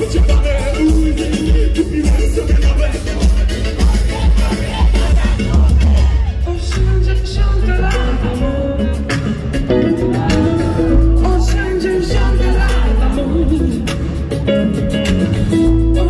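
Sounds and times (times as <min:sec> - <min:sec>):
live music with heavy bass: 0:00.0 - 0:16.0
person singing: 0:00.0 - 0:16.0.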